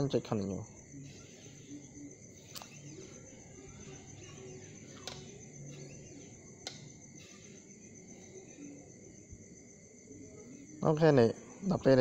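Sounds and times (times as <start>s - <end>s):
faint room noise: 0.0s - 12.0s
steady high whine: 0.0s - 12.0s.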